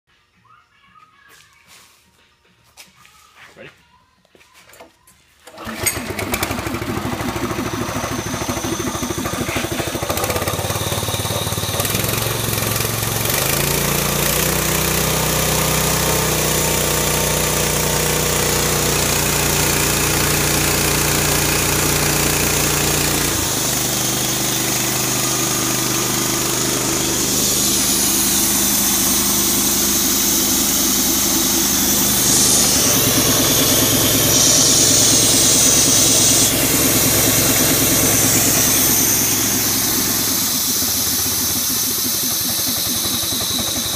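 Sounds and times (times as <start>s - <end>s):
small gasoline engine running: 5.5s - 43.9s.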